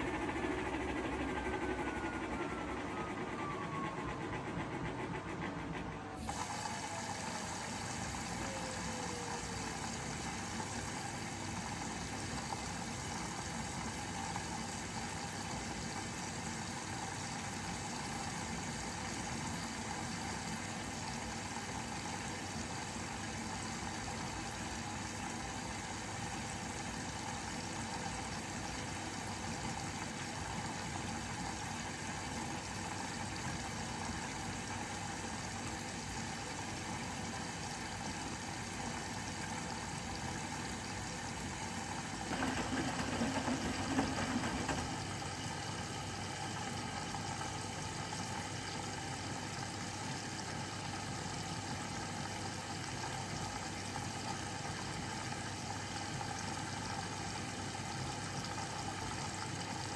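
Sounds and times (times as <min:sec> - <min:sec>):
faint motor whine: 0:00.0 - 0:59.9
water rushing in washing machine: 0:00.0 - 0:59.9.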